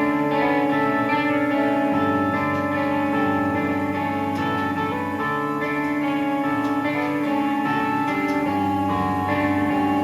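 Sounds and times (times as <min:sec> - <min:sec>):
guitars ringing chords: 0:00.0 - 0:10.0.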